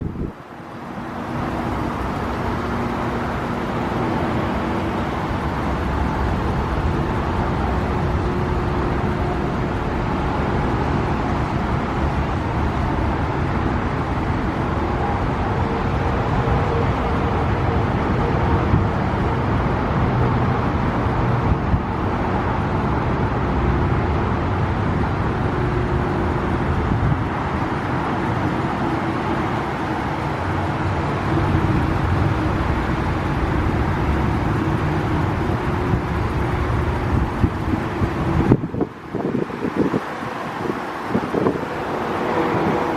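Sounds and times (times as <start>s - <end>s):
motor vehicle rumble: 0.0s - 42.9s.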